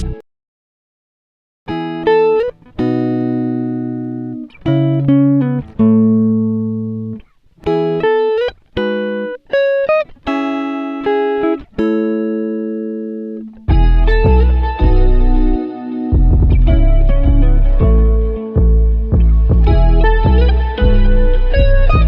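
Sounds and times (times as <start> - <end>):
plucked string chords: 1.7 - 22.0.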